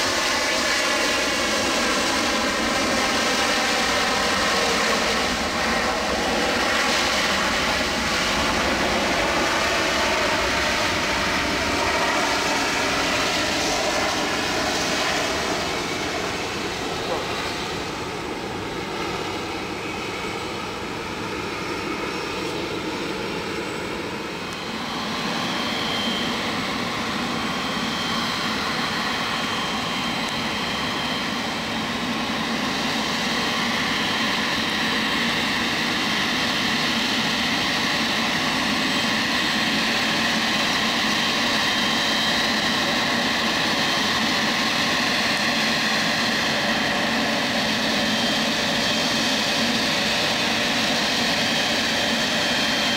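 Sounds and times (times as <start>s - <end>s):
jet engines whining while taxiing: 0.0s - 52.9s.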